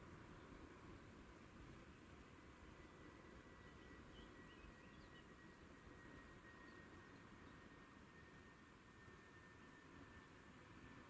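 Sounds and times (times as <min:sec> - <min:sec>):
faint hiss: 0:00.0 - 0:11.0
thin steady high tone: 0:00.0 - 0:11.0.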